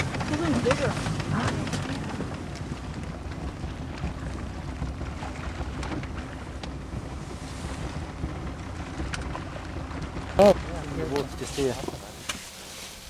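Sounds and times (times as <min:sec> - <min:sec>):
boat engine low rumble: 0:00.0 - 0:13.0
wind buffeting microphone: 0:00.0 - 0:13.0.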